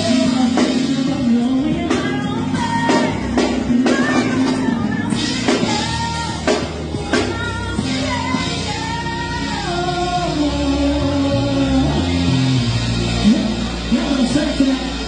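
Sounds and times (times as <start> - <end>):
woman singing: 0.0 - 12.3
live band playing: 0.0 - 15.0.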